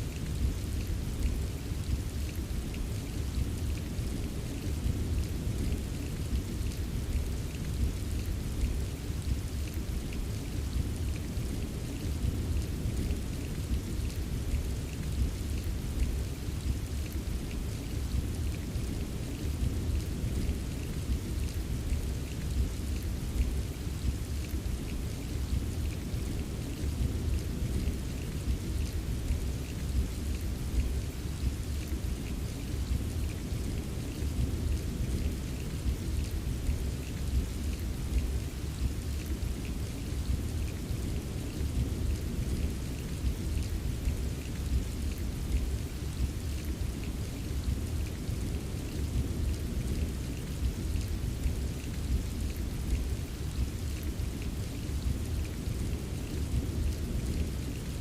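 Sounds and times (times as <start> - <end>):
steady rain: 0.0 - 58.0
raindrop ticks: 0.1 - 58.0.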